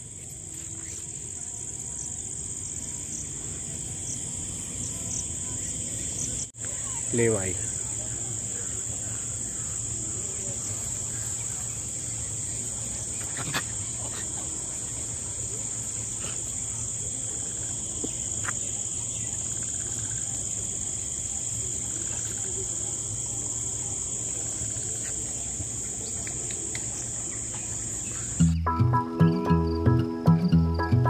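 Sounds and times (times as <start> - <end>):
high-pitched insect chorus: 0.0 - 28.6.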